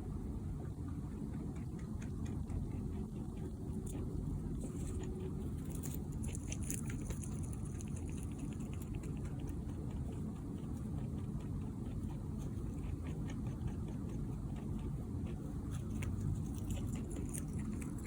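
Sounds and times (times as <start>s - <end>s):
steady low rumble: 0.0s - 18.0s
rabbit clicking: 0.7s - 18.0s.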